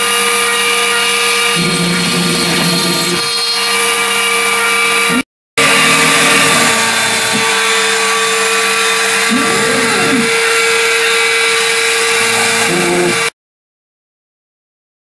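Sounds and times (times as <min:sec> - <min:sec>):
high-pitched spindle motor whine: 0:00.0 - 0:13.3.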